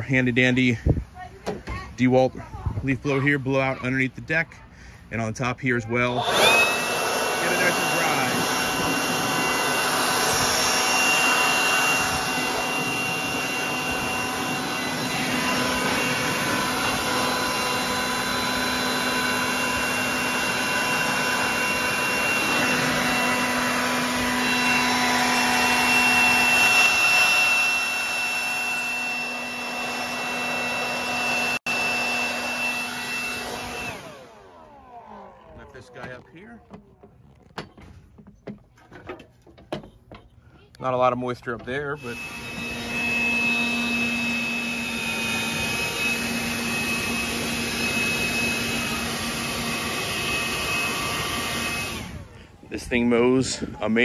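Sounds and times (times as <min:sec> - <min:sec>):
leaf blower whining: 0:00.0 - 0:37.8, 0:40.5 - 0:54.0.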